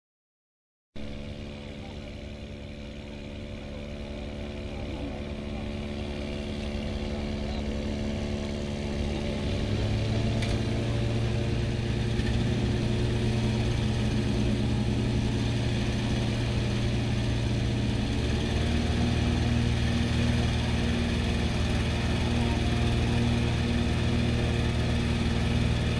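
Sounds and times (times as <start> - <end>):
inflation fan engine running: 1.0 - 25.9.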